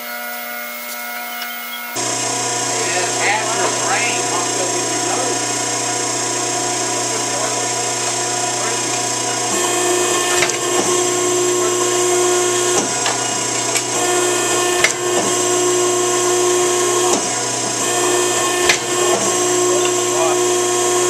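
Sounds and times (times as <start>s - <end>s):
metal shear motor humming: 0.0s - 21.0s.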